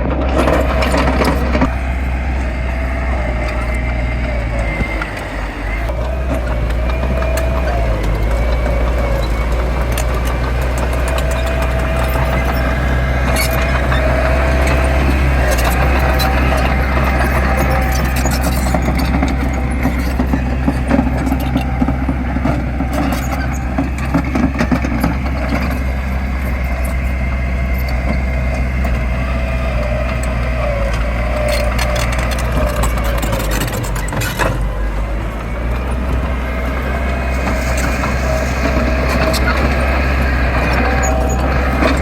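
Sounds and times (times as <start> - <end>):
diesel machinery engine running: 0.0 - 42.0.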